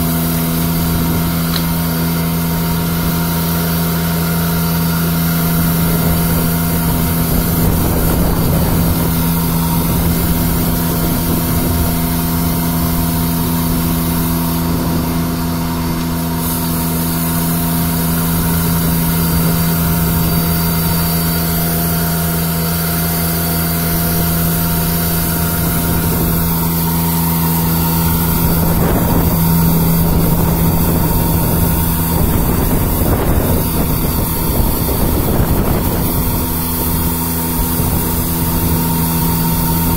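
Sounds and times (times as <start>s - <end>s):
street sweeper engine humming: 0.0s - 39.9s.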